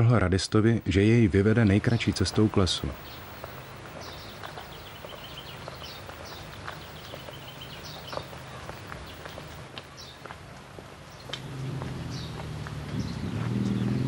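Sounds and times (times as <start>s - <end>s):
birds chirping: 0.0s - 14.0s
footsteps on gravel: 1.8s - 13.6s.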